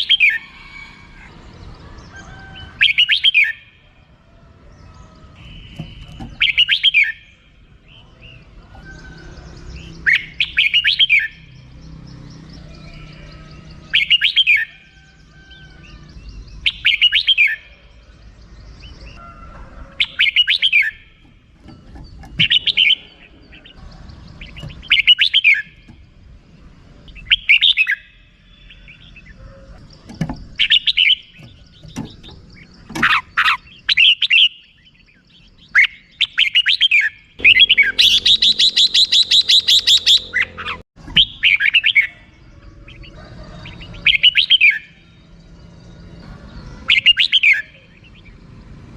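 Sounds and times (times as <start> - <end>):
bird chirping phrases: 0.0 - 48.9.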